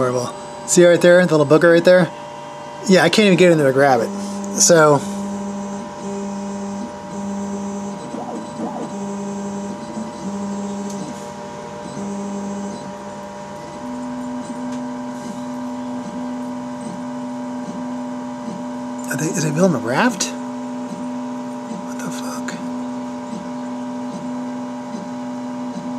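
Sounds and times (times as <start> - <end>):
steady hum: 0.0 - 25.9
stepper motors whining: 2.8 - 25.1.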